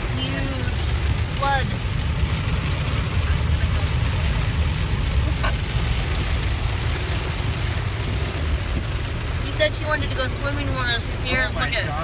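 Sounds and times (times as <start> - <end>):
heavy rain on car roof: 0.0 - 12.0
low rumble from car: 0.0 - 12.0.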